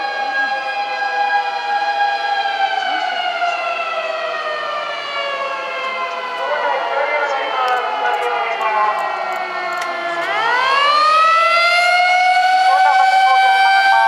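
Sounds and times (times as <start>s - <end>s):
fire engine siren wailing: 0.0s - 14.0s
second siren rising: 0.0s - 14.0s.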